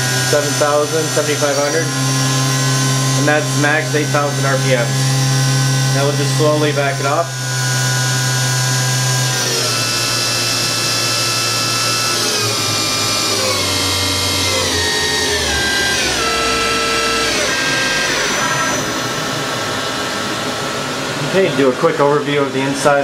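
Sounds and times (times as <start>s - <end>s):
machine spindle whining: 0.0s - 23.0s.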